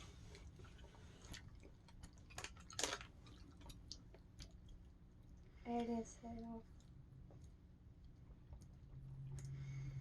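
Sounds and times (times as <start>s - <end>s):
chewing gummy candy: 0.3s - 9.6s.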